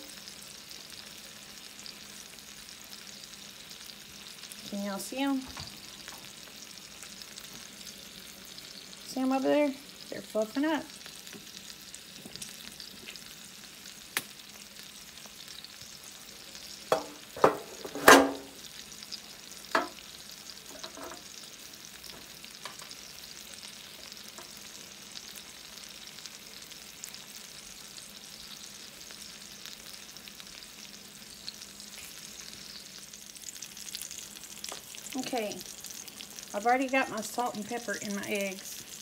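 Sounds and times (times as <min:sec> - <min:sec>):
sausages sizzling in a skillet: 0:00.0 - 0:39.0.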